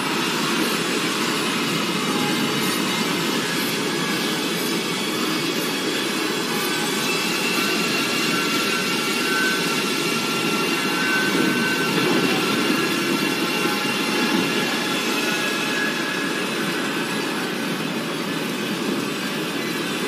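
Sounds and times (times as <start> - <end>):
loud steady rushing noise: 0.0 - 20.0.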